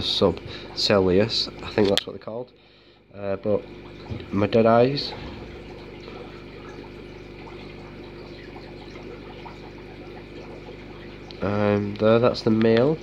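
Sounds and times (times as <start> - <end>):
aquarium water bubbling: 0.0 - 13.0
steady low hum: 0.0 - 13.0.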